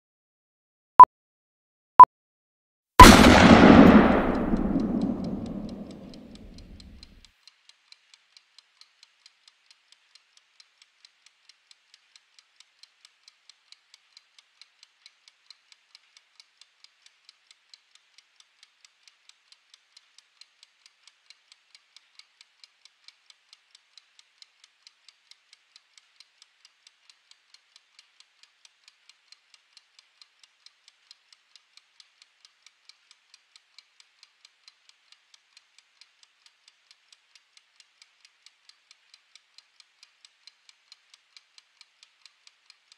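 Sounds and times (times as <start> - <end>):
kitchen timer ticking: 7.6 - 42.9.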